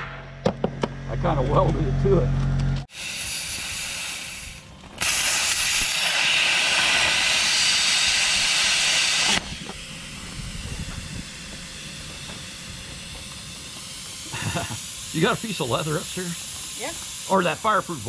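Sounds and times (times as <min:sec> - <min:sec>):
plasma cutter arc hissing: 0:02.9 - 0:18.0
soft hiss of air: 0:02.9 - 0:18.0.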